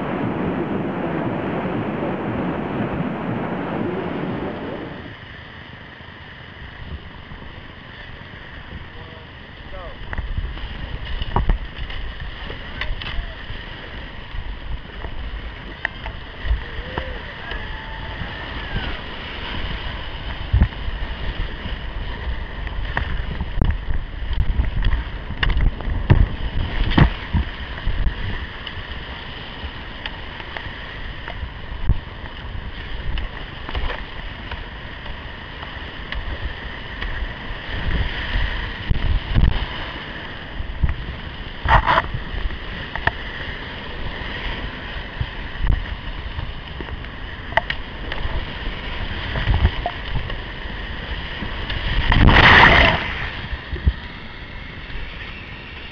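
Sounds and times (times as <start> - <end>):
low rumble of water: 0.0 - 55.9
wind buffeting microphone: 0.0 - 55.9
whitewater rapids rushing: 7.3 - 55.9.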